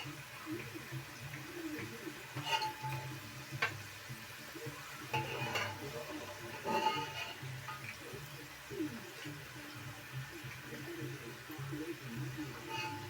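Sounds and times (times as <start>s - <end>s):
light sizzling: 0.0s - 13.0s
metal utensil scraping frying pan: 0.0s - 13.0s.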